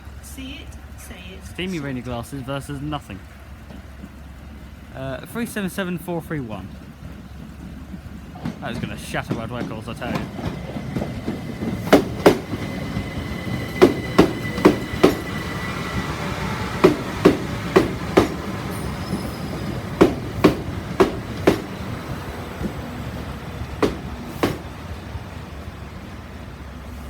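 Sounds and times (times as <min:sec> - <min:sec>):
train wheels clicking over rail joints: 0:01.6 - 0:27.0.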